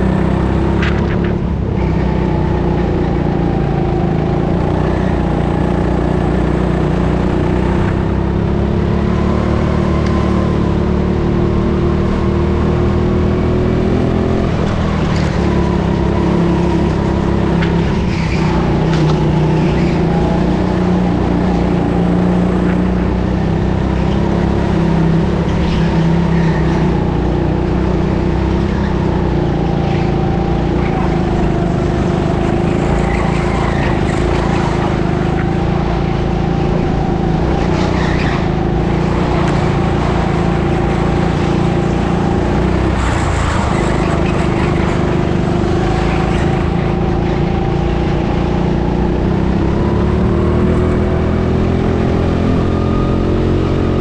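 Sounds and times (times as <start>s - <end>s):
go-kart motor running: 0.0s - 54.0s.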